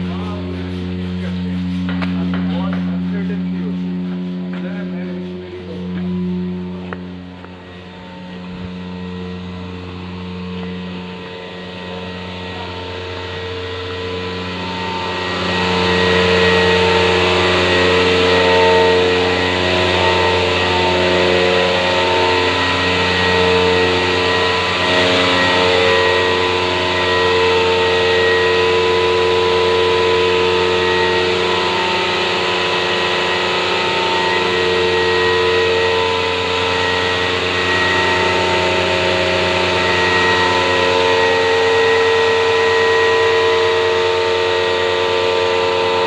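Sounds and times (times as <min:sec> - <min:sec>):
vacuum pump motor hum: 0:00.0 - 0:46.0.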